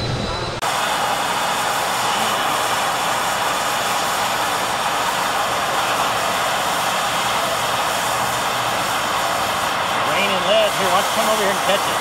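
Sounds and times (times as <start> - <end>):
gas torch flame hissing: 0.0 - 12.0.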